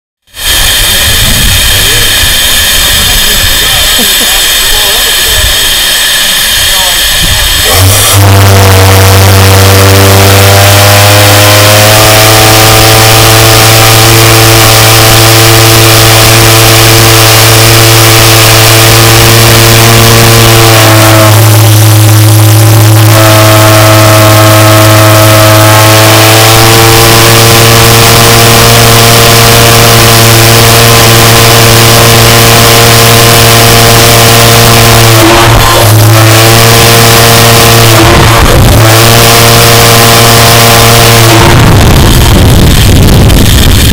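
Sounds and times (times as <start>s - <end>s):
deep steam whistle: 0.4s - 43.9s.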